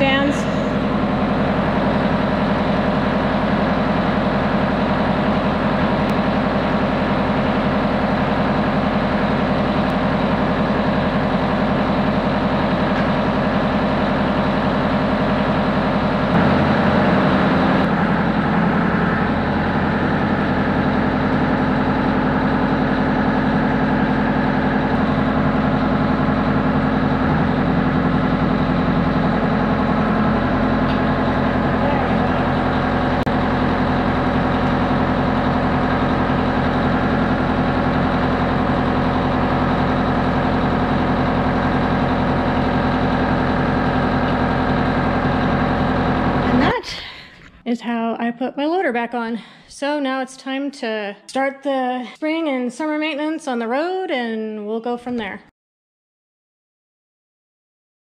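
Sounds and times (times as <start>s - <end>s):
tractor diesel engine idling: 0.0s - 47.0s.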